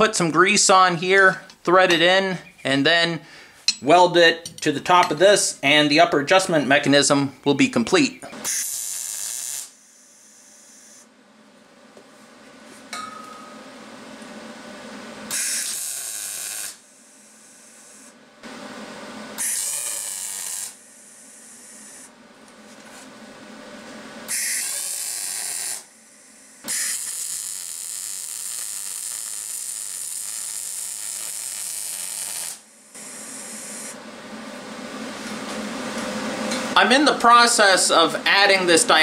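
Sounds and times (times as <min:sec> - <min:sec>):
welder arc buzzing: 0:00.0 - 0:39.0.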